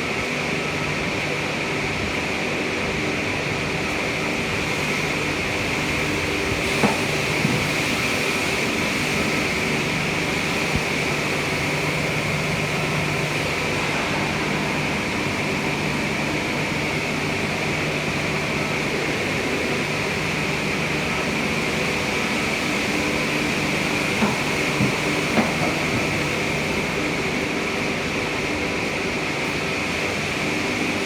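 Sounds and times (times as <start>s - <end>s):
industrial machinery drone: 0.0s - 31.0s.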